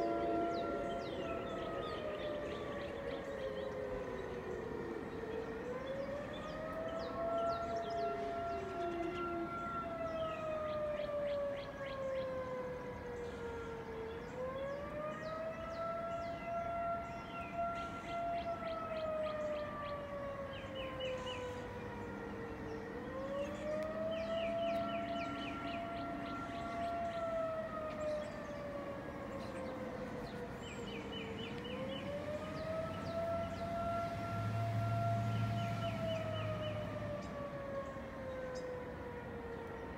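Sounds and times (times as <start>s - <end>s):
lower siren tone: 0.0s - 39.9s
warning siren wailing: 0.0s - 39.9s.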